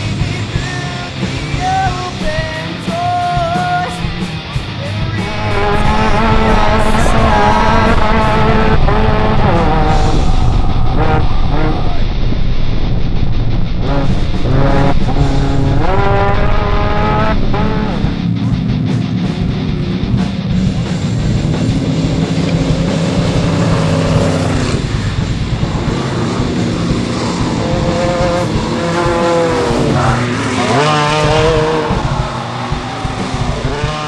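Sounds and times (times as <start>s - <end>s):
race truck engine running hard: 0.0s - 34.0s
rock music: 0.0s - 34.0s.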